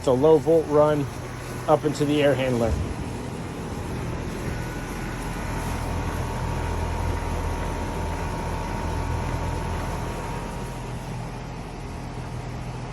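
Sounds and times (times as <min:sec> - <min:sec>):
air conditioner unit humming: 0:00.0 - 0:12.9.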